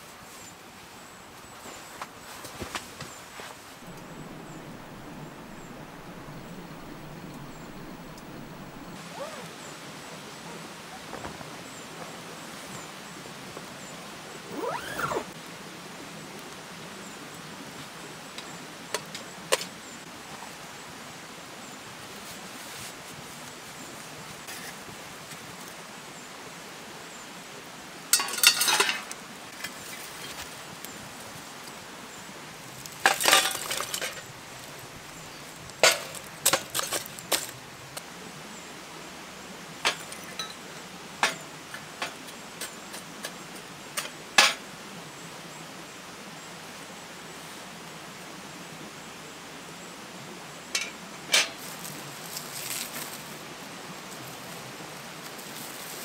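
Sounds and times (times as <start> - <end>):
faint background hiss: 0.0 - 56.0.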